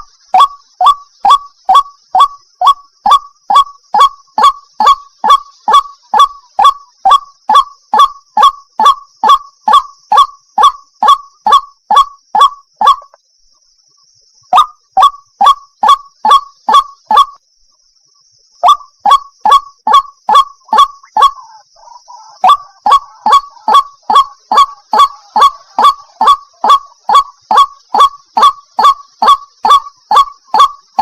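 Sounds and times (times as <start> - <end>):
waterhen calling: 0.0 - 13.2, 18.6 - 31.0.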